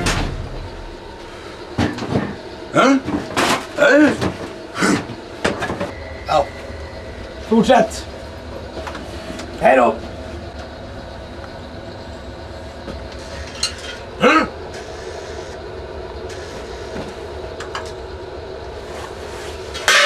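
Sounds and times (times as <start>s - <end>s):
engine room machinery drone: 0.0s - 20.0s.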